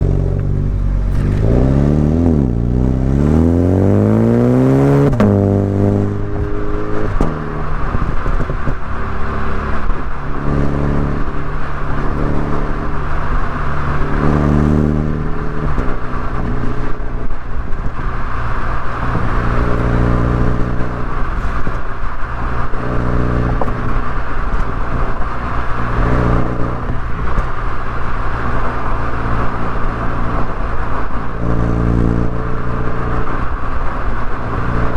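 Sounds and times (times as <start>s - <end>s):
car engine accelerating: 0.0s - 34.9s
road noise: 0.0s - 34.9s.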